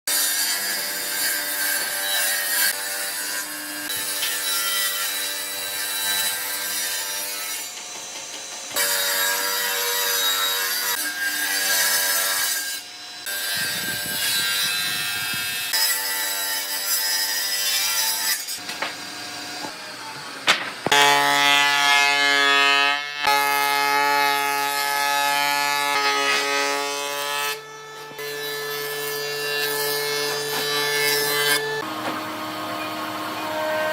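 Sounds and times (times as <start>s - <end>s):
wood being sawn and planed: 0.1s - 33.9s.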